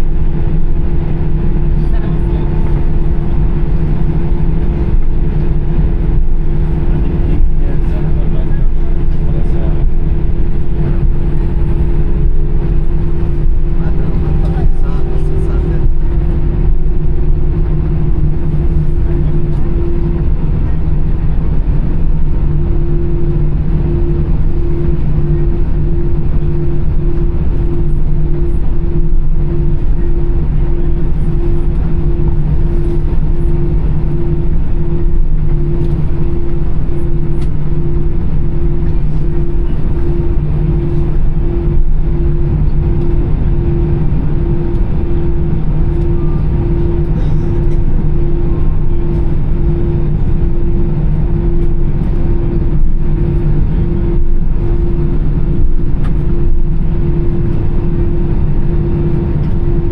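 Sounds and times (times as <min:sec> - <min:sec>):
jet engines idling in cabin: 0:00.0 - 0:59.9.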